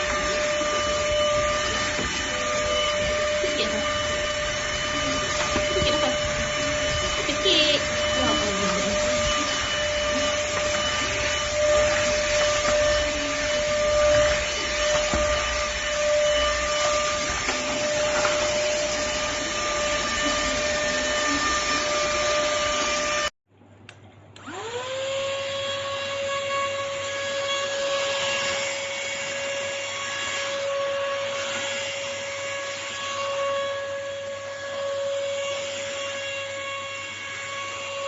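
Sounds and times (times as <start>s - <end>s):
handheld vacuum cleaner whine: 0.0s - 23.4s, 24.4s - 38.0s.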